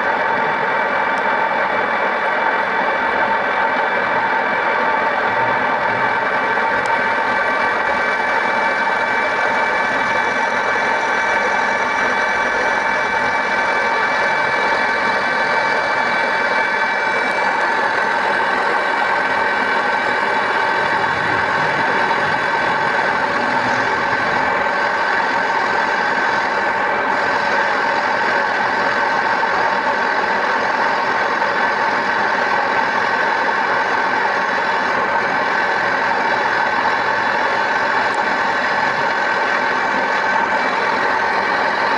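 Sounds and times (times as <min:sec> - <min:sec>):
workshop machine humming and whirring: 0:00.0 - 0:41.9.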